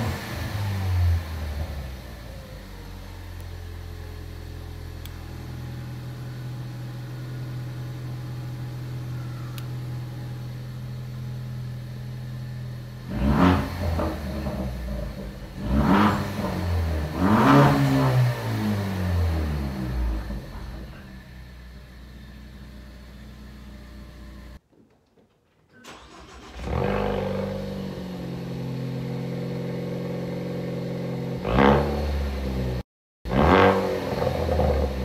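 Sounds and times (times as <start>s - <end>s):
engine revving: 0.0s - 2.6s, 4.7s - 21.6s, 25.9s - 35.0s
car engine idling: 0.8s - 17.4s, 18.4s - 24.6s, 25.2s - 31.4s.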